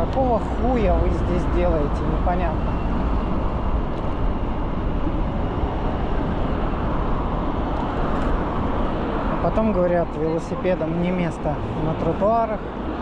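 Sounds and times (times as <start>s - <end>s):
bicycle road noise: 0.0s - 13.0s
wind buffeting microphone: 0.0s - 13.0s.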